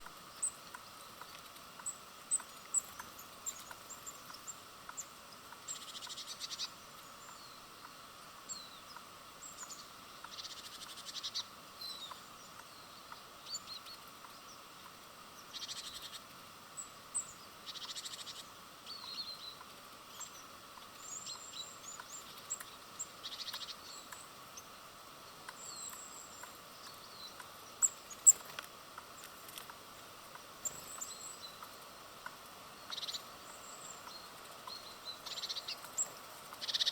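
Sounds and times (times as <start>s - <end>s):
faint background hum: 0.0s - 36.9s
small birds chirping: 0.0s - 36.9s
bird trilled calls: 0.4s - 14.4s, 15.4s - 16.2s, 17.1s - 28.5s, 32.8s - 36.9s.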